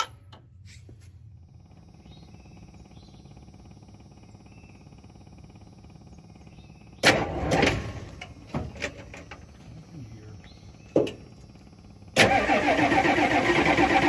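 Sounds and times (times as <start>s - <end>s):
diesel engine cold start: 1.4s - 14.0s.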